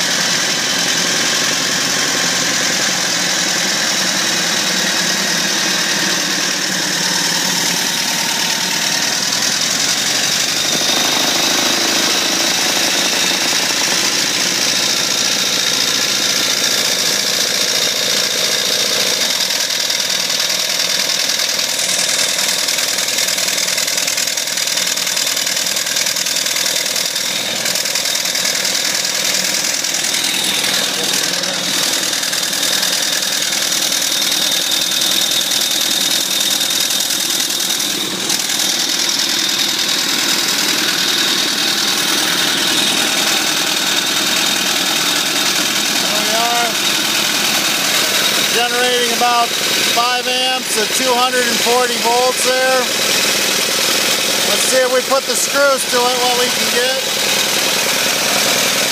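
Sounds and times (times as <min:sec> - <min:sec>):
steam engine running: 0:00.0 - 0:58.9.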